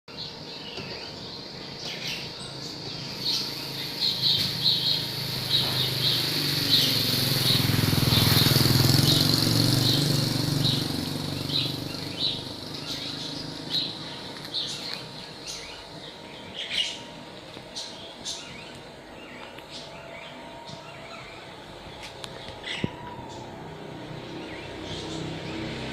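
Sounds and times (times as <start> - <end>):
small birds chirping: 0.1 - 25.9
low engine rumble: 2.9 - 25.9.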